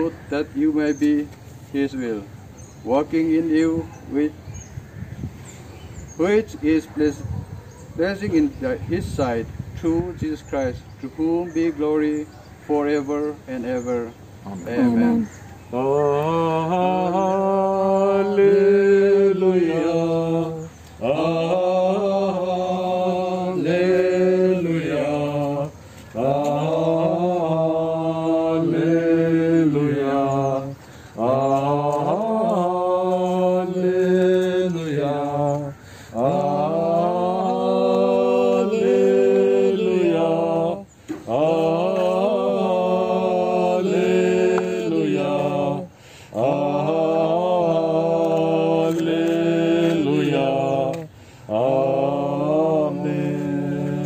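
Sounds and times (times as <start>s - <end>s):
unaccompanied chant-like hymn singing: 0.0s - 4.3s, 7.9s - 54.0s.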